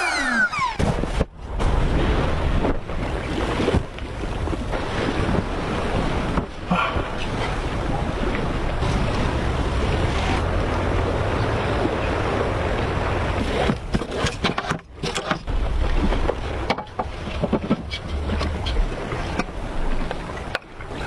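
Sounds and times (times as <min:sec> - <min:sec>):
wind rumble on microphone: 0:00.5 - 0:21.0.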